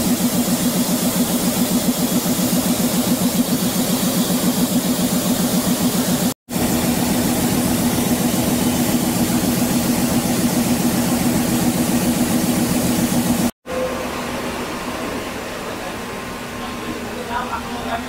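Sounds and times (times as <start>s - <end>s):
engine running with low hum: 0.0s - 18.0s.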